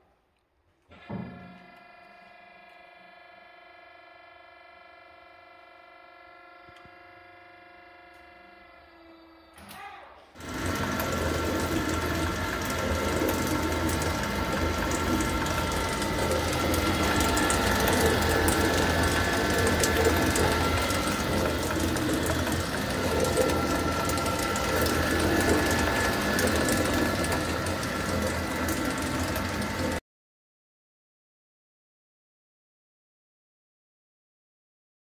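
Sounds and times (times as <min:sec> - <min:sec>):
electric motor hum and whine: 0:00.9 - 0:09.8, 0:10.4 - 0:30.0.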